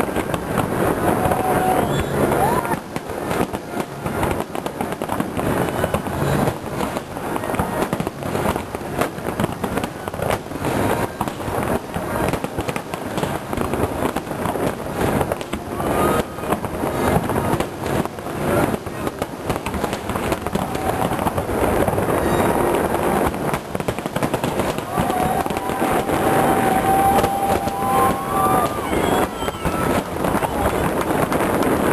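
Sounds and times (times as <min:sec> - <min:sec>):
fireworks booming and crackling: 0:00.0 - 0:31.9.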